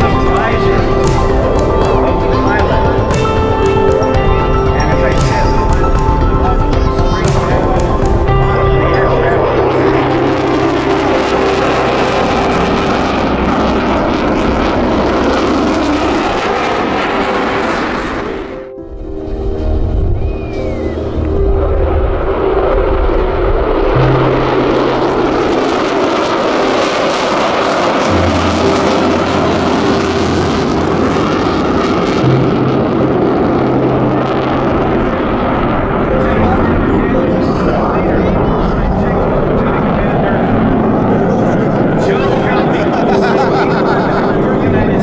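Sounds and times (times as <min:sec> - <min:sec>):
jet flying by: 0:00.0 - 0:45.0.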